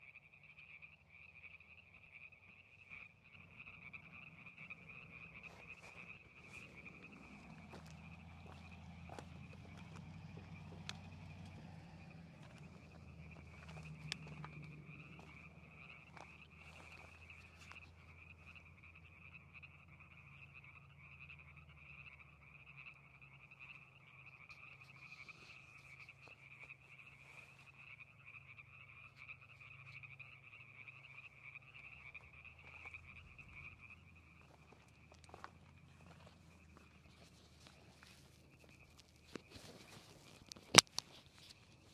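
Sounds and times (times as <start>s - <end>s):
frogs calling: 0.0s - 41.9s.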